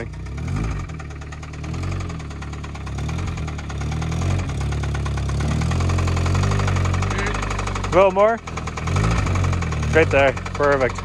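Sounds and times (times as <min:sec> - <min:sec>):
car engine under light throttle: 0:00.0 - 0:11.0.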